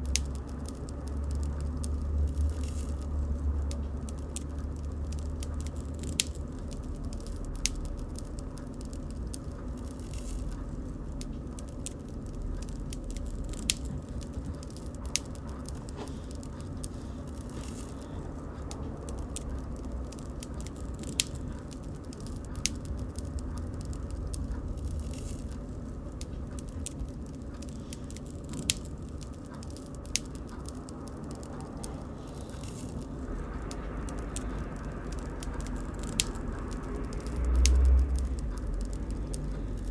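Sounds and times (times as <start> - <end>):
low rumble of flames: 0.0 - 39.9
sharp pops of fire: 0.0 - 39.9
wood crackling: 0.0 - 39.9.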